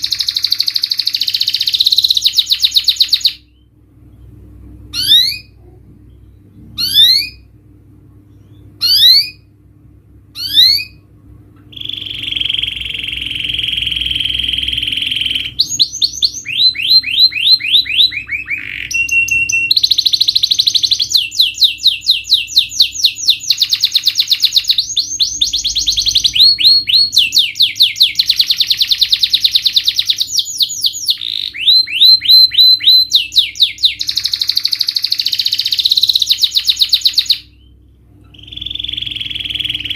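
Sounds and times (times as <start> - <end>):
canary singing: 0.0 - 7.6, 8.3 - 9.6, 10.2 - 39.9.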